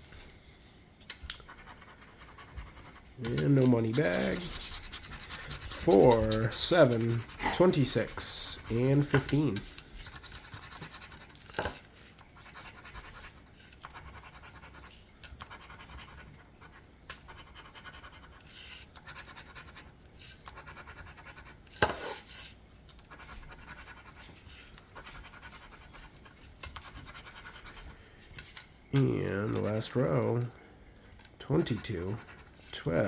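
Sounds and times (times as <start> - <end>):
scratch-off ticket being scratched: 1.4 - 11.8, 12.4 - 22.4, 23.0 - 27.9, 29.0 - 30.5, 31.4 - 33.0.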